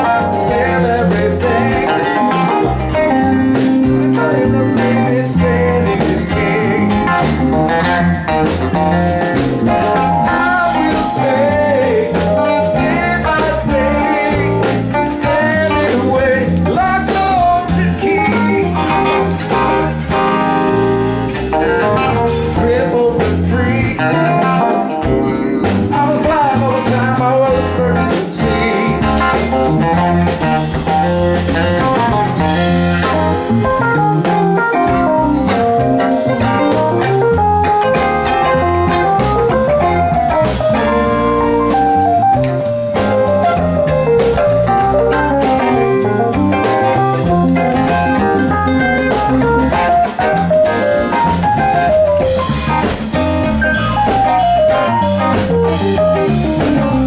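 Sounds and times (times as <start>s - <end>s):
live rock band playing: 0.0s - 57.0s
melodic lead guitar lines: 0.0s - 57.0s.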